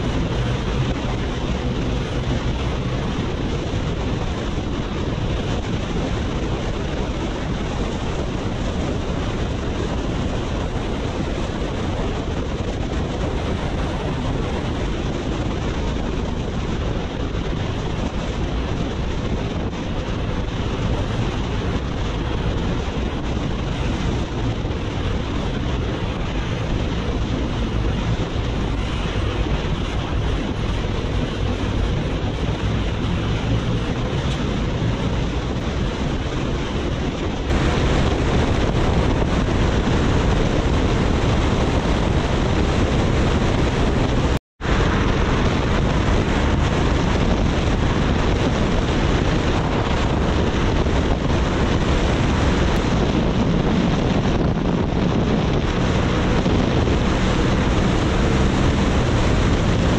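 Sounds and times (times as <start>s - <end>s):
motorcycle engine running: 0.0s - 59.9s
wind rushing on microphone: 0.0s - 59.9s.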